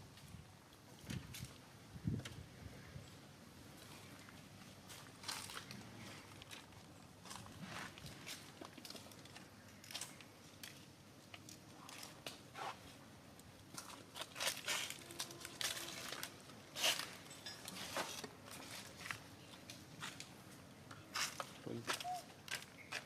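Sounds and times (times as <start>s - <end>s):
rustling and crackling: 3.7s - 23.0s.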